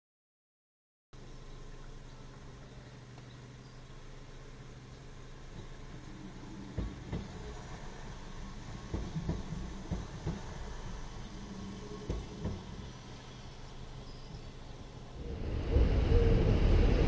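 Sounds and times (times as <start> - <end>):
train engine drone: 1.2 - 17.0.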